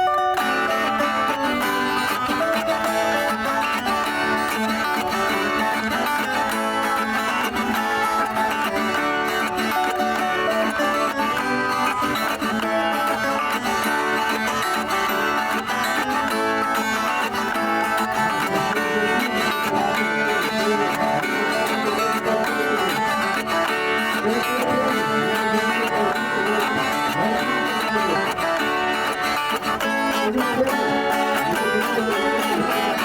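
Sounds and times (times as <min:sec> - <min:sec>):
plucked guitar instrumental: 0:00.0 - 0:33.0.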